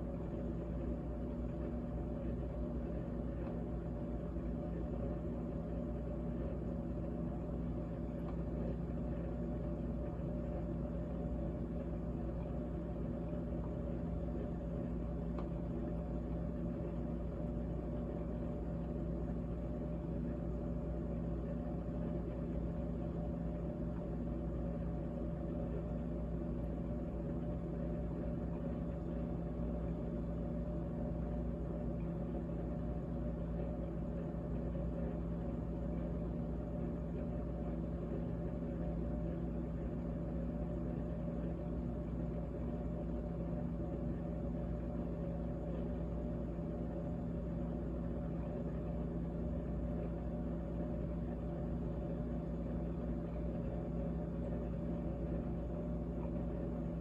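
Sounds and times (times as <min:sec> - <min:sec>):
refrigerator compressor hum: 0:00.0 - 0:57.0.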